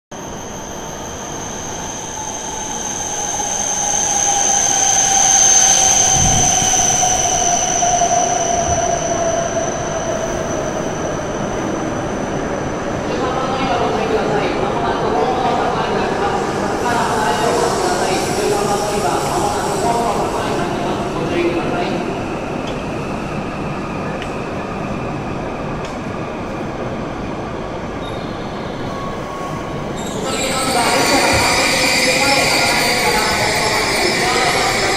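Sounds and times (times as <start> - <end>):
high-speed train whining: 0.1 - 34.9
rush of passing train cars: 0.1 - 34.9.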